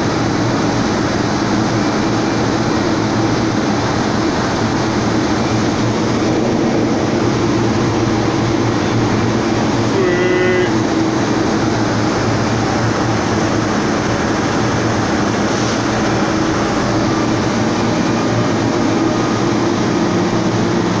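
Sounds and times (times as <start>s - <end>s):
industrial crane rumble: 0.0s - 21.0s.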